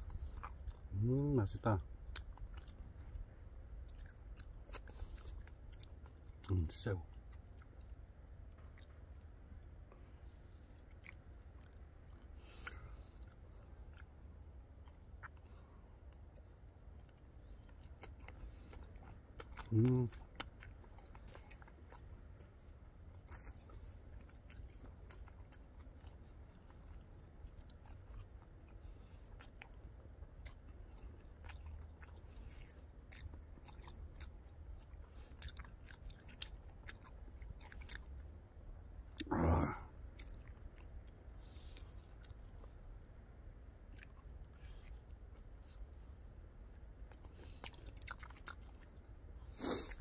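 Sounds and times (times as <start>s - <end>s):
person chewing crunchy food: 0.0s - 50.0s.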